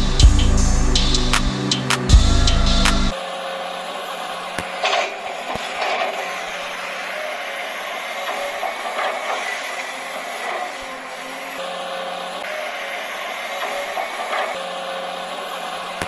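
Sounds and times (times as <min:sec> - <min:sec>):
small electric motors whirring: 0:03.1 - 0:16.0.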